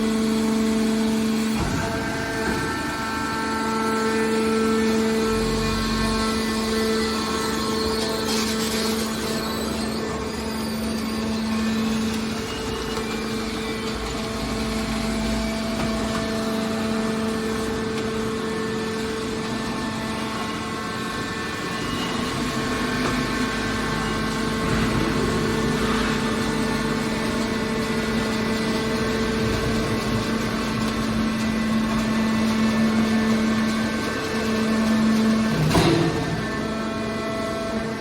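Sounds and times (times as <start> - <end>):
hydraulic pump motor humming: 0.0 - 38.0.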